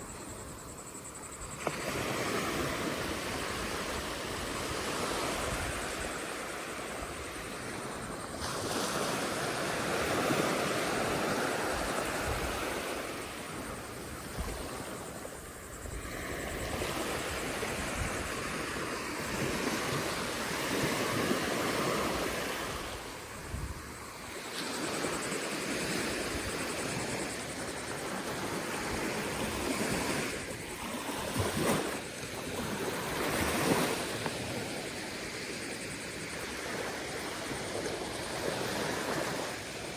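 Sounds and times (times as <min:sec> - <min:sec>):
wind rumbling on microphone: 0:00.0 - 0:39.9.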